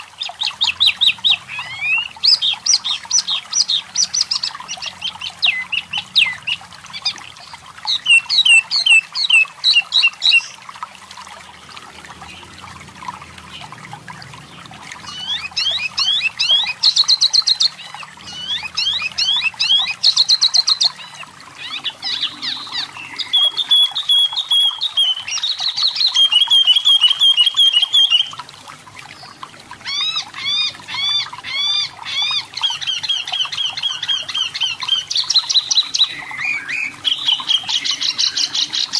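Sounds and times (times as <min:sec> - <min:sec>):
bird singing trills and chirps: 0:00.0 - 0:10.6, 0:14.4 - 0:28.4, 0:29.1 - 0:38.9.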